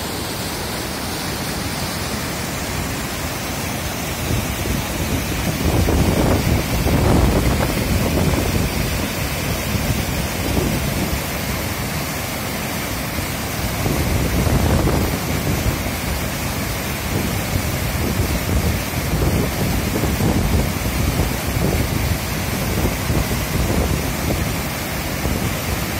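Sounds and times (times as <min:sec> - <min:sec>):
rush of falling water: 0:00.0 - 0:25.9.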